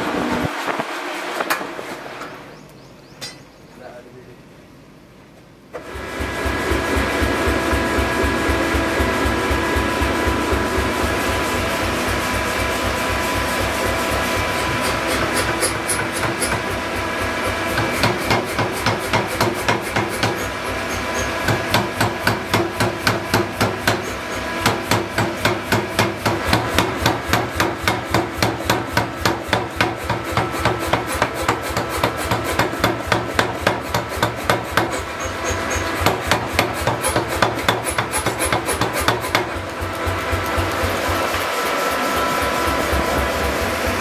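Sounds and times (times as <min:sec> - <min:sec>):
power hammer pounding steel: 0:06.0 - 0:44.0.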